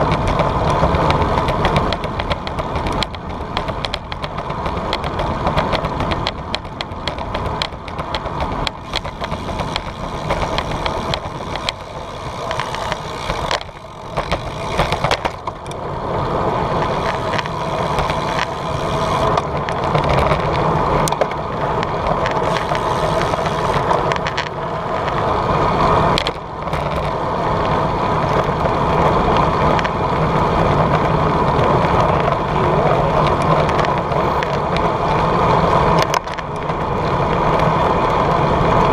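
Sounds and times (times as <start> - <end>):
bicycle rattles and clicks: 0.0 - 38.9
bicycle tyres rumbling on road: 0.0 - 38.9.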